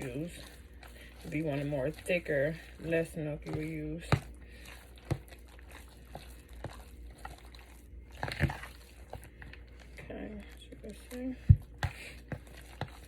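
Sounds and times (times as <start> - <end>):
fork mixing mashed potatoes: 0.0 - 13.0.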